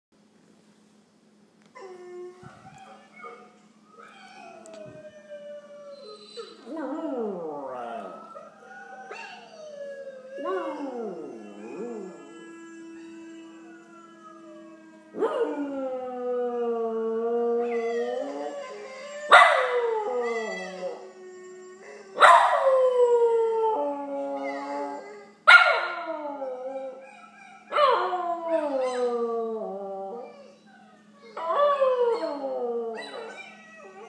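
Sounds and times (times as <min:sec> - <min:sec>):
dog howling: 0:01.8 - 0:34.0
dog howling through laptop speakers: 0:01.8 - 0:34.0.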